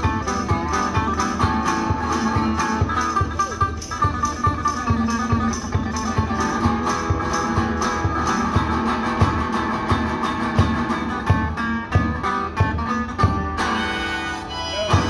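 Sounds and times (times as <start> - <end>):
plucked and strummed guitar: 0.0 - 15.0.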